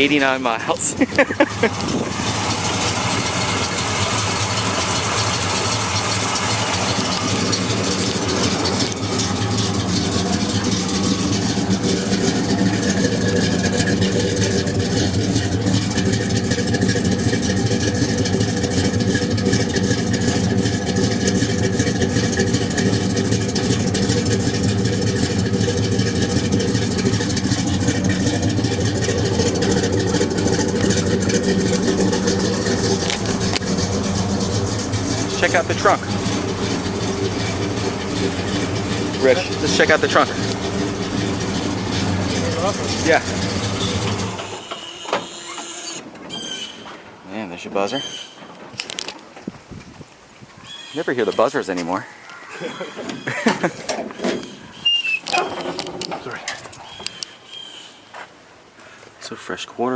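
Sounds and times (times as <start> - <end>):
car engine idling: 0.0 - 59.2.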